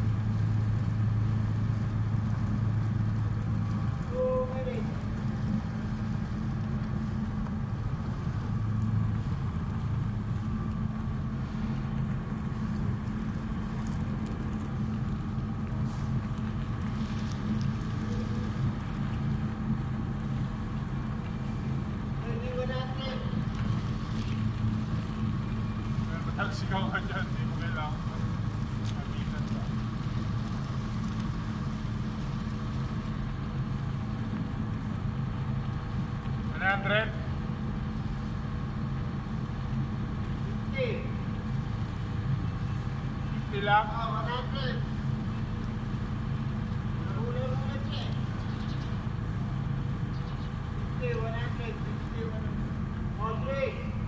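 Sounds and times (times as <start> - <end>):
faint high whine: 0.0 - 54.0
generator engine droning: 0.0 - 54.0.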